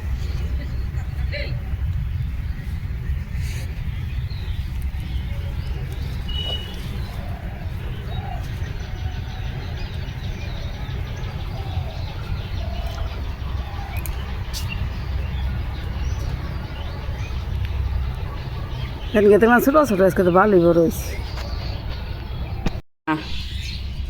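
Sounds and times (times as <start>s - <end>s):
steady low rumble: 0.0s - 22.6s
bird calls and cooing: 0.1s - 24.0s.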